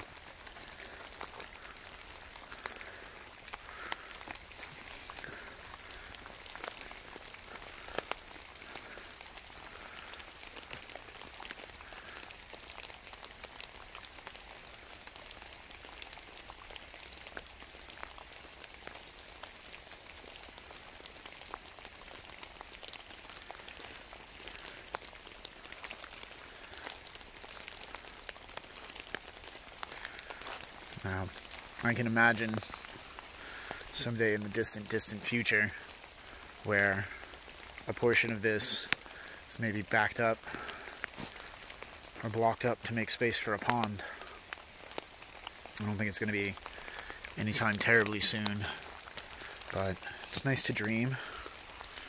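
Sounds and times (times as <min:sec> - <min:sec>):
rain hissing: 0:00.0 - 0:52.0
sharp ticks of raindrops: 0:00.0 - 0:52.0.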